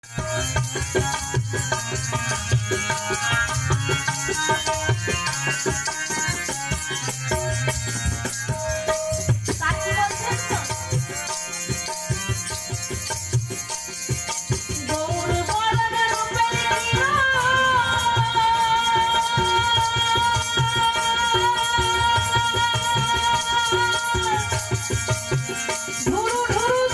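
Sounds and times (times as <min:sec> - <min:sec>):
hand drum rhythm: 0:00.0 - 0:26.9.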